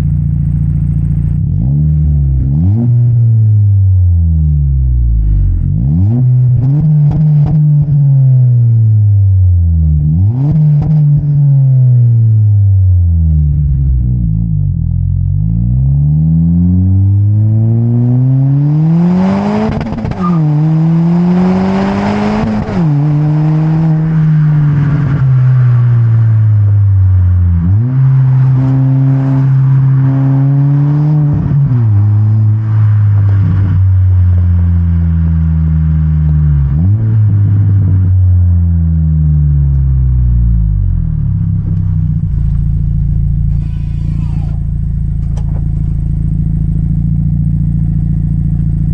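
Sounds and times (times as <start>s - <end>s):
car engine accelerating and idling: 0.0s - 48.9s.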